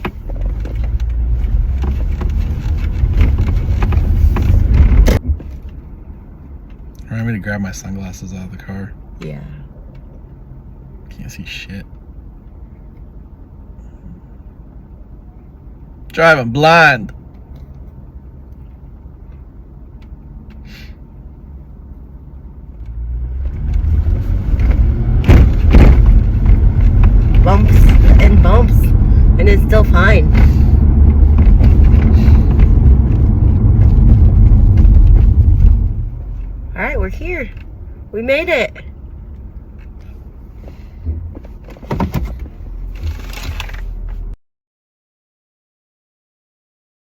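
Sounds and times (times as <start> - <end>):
car cabin engine and road rumble: 0.0 - 44.4.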